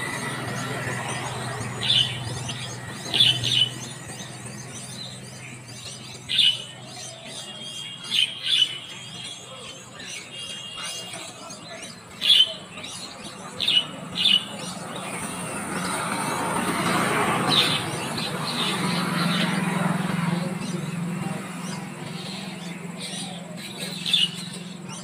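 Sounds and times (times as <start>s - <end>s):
mynas calling: 0.0s - 25.0s
traffic hum: 0.0s - 25.0s.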